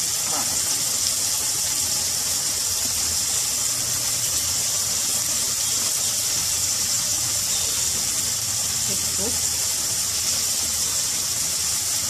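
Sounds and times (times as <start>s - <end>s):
sizzling of frying in oil: 0.0s - 12.0s.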